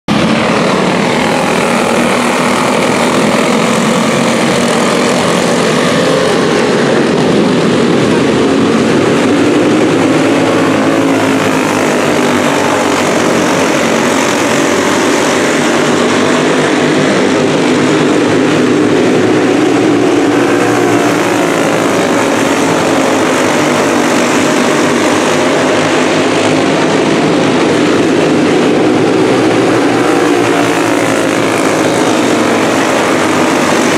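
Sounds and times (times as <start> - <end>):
racing kart engines: 0.0 - 33.9.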